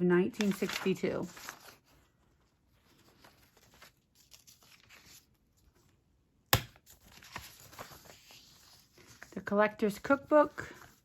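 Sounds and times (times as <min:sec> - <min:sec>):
paper pages rustling: 0:00.3 - 0:06.0, 0:06.8 - 0:11.0.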